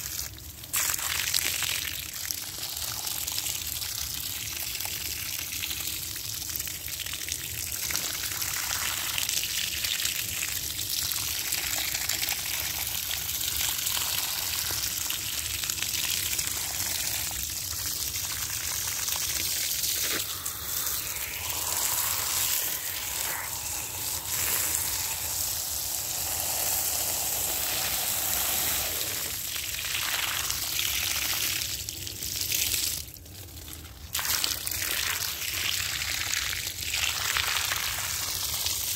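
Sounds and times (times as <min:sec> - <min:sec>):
water splashing on bricks and grass: 0:00.0 - 0:03.7, 0:06.8 - 0:38.9
water gushing from a hose: 0:00.0 - 0:38.9.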